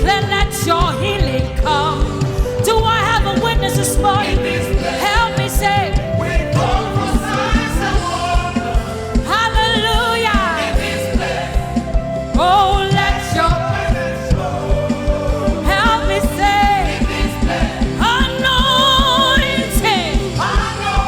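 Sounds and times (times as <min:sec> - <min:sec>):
gospel singers with band: 0:00.0 - 0:21.0
steady drum beat: 0:00.0 - 0:21.0.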